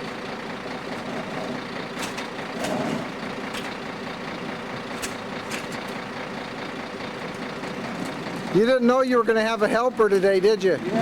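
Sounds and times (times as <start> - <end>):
garbage truck diesel engine running: 0.0 - 11.0.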